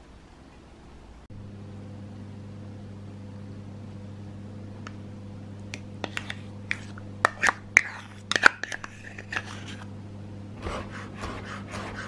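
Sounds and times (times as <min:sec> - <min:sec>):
low hum: 0:00.7 - 0:12.0.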